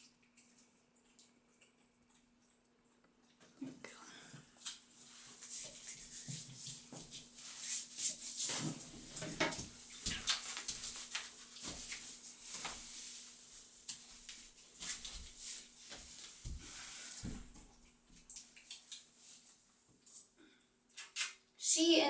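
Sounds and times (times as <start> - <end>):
kittens eating wet food: 0.0 - 7.4, 8.8 - 12.6, 13.3 - 21.6.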